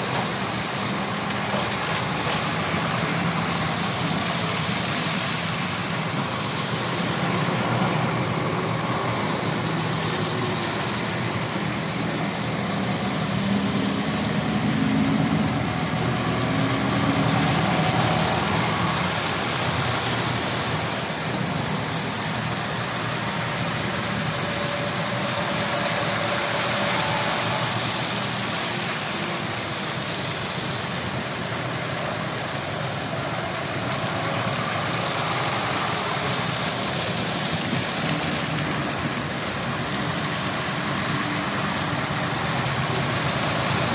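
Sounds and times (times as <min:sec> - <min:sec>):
lorry diesel engines rumbling: 0:00.0 - 0:43.9
tyre hiss on wet tarmac: 0:00.0 - 0:43.9.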